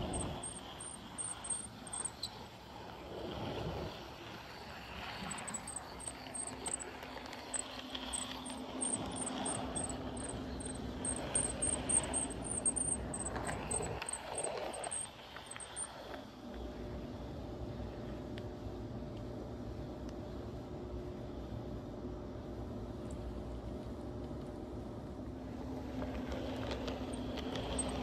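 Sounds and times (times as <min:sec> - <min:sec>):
model train rumbling whir: 0:00.0 - 0:28.0.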